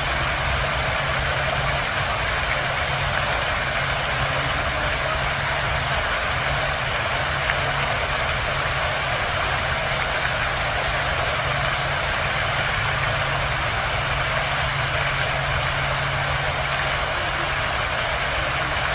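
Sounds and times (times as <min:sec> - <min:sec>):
fountain water splashing: 0:00.0 - 0:18.9.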